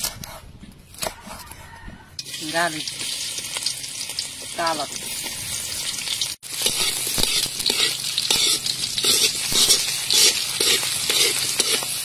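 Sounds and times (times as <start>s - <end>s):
food sizzling in hot oil: 2.2s - 12.0s
utensil scraping and knocking wok: 2.2s - 12.0s.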